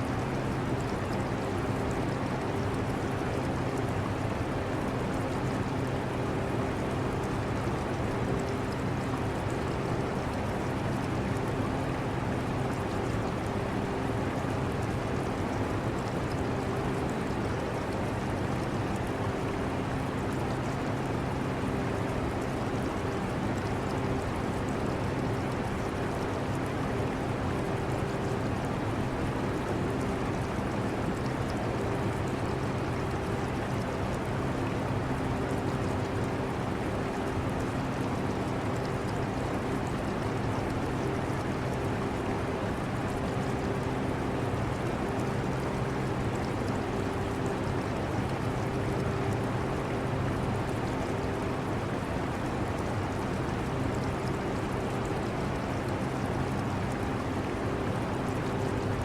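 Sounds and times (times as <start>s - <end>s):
aquarium water trickling: 0.1s - 59.0s.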